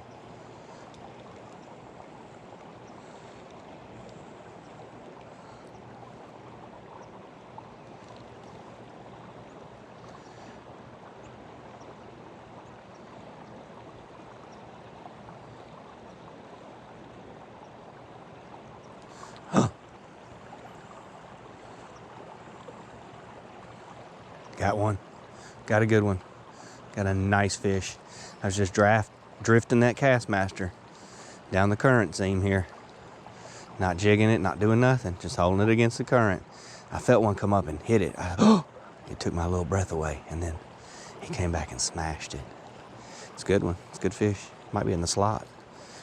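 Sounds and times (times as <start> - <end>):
river current flowing: 0.0 - 46.0.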